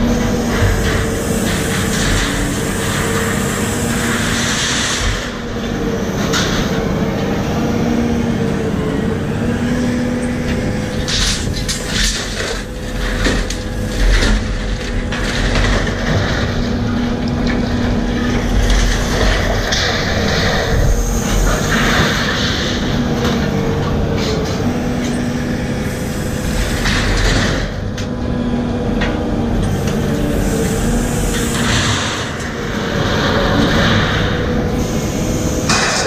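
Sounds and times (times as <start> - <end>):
crane engine and hydraulics hum: 0.0 - 36.0.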